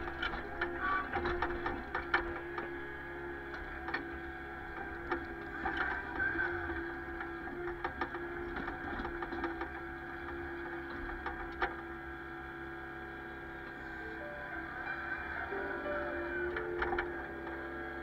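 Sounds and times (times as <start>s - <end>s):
excavator hydraulic whine: 0.0s - 18.0s.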